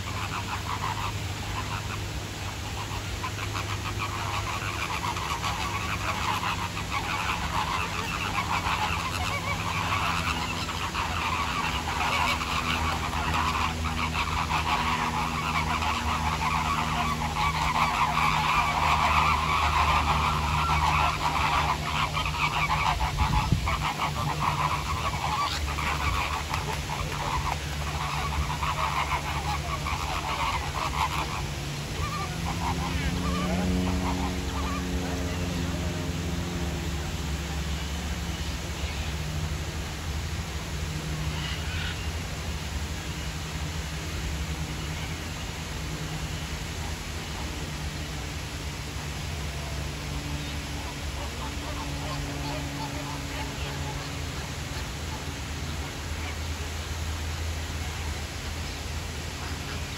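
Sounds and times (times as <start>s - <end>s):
flamingos honking: 0.0s - 59.9s
low steady hum: 0.0s - 59.9s.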